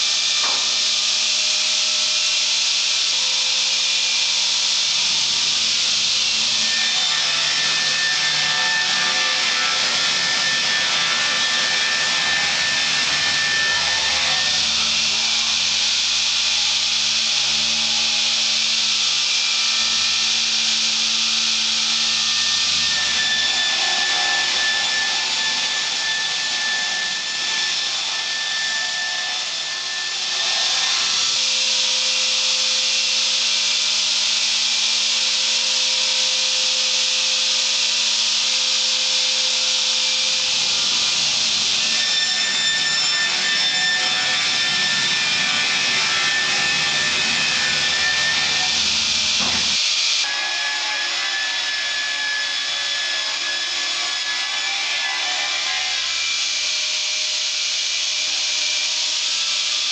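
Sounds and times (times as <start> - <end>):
saw motor humming: 0.0 - 50.4.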